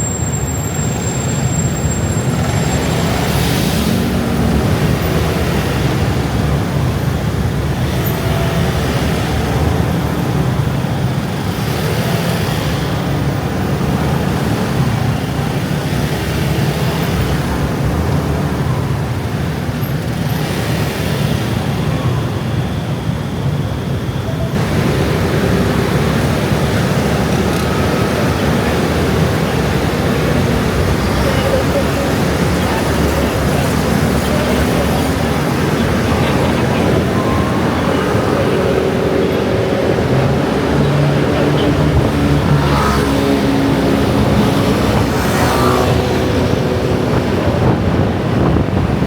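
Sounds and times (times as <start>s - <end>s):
dense scooter traffic hum: 0.0s - 49.0s
scooters passing close: 0.0s - 49.0s.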